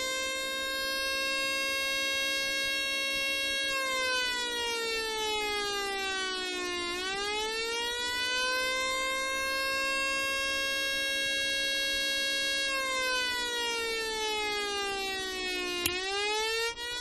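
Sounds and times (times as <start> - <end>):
electronic siren tone: 0.0 - 17.0.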